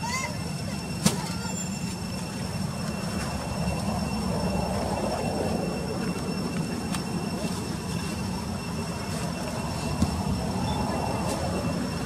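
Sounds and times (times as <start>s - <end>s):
faint high-pitched tones: 0.0s - 12.0s
steady low rumble: 0.4s - 12.0s.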